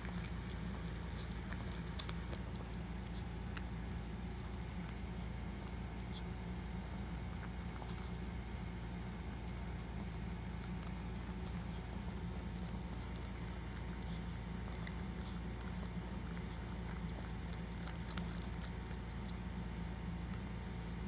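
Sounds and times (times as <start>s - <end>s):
dog licking and chewing: 0.0s - 21.0s.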